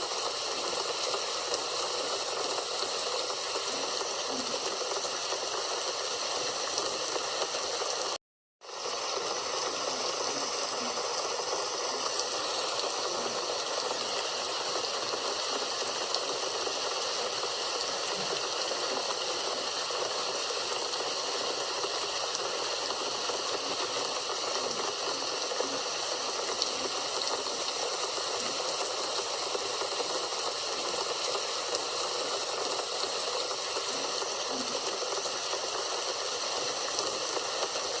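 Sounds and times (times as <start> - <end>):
rain hissing: 0.0 - 38.0.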